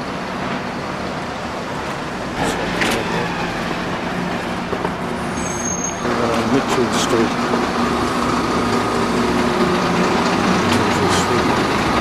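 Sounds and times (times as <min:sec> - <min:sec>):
passing vehicles: 0:00.0 - 0:12.0.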